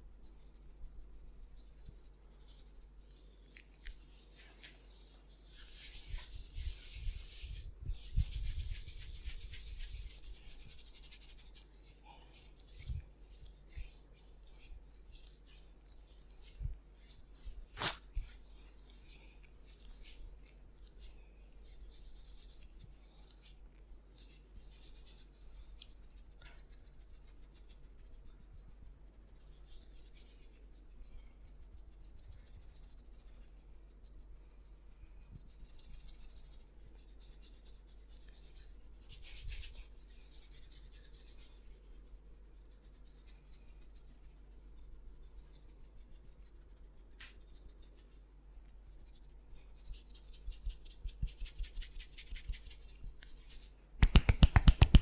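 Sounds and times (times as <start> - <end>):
hands rubbing oiled skin: 0.0 - 55.0.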